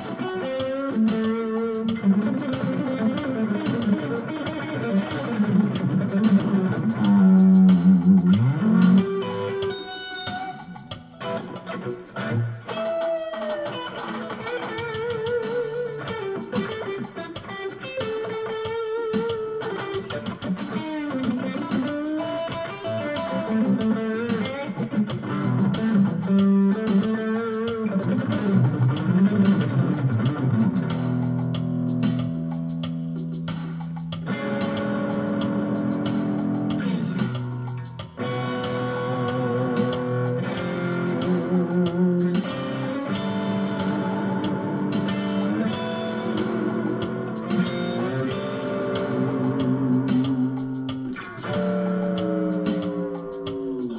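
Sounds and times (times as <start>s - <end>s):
electric guitar lead with vibrato: 0.0s - 33.4s, 34.1s - 53.9s
drum machine beat: 0.0s - 53.9s.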